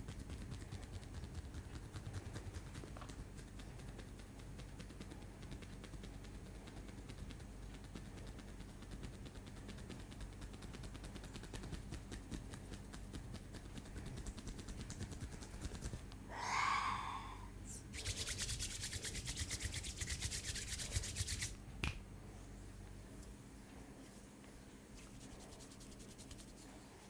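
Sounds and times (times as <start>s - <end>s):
hands rubbing hair and scalp: 0.0s - 16.0s, 18.0s - 21.6s, 23.0s - 27.0s.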